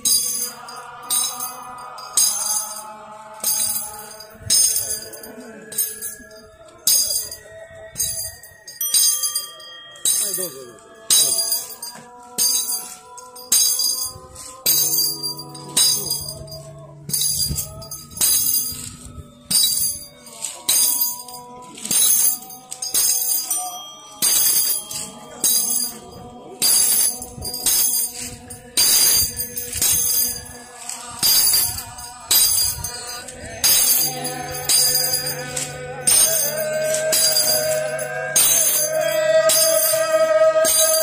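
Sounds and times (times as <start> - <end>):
metal rings jingling: 0.0 - 41.0
sustained steady tones: 0.0 - 41.0.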